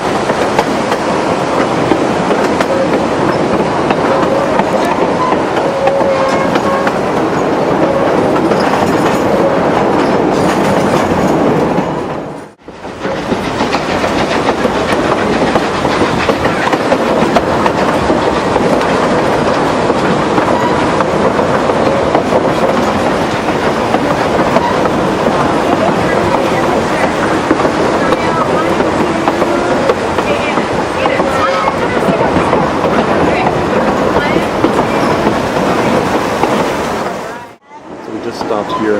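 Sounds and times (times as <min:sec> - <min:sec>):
train rumble: 0:00.0 - 0:38.9
wheels clacking on rail joints: 0:00.0 - 0:38.9.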